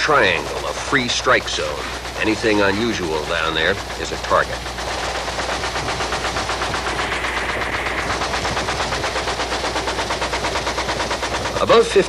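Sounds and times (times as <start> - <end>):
helicopter rotor chop: 0.0 - 12.0
low engine hum: 0.0 - 12.0.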